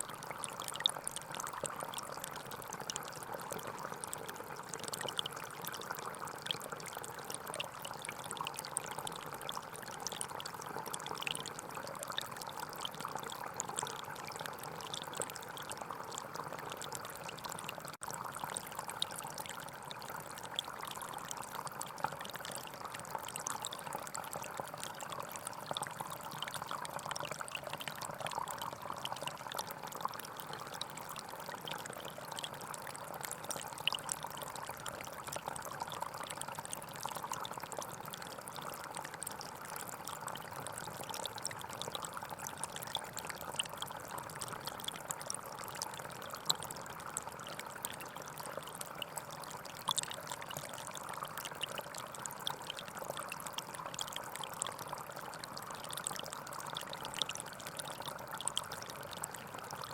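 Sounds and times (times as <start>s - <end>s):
stream trickling and splashing: 0.0s - 59.9s.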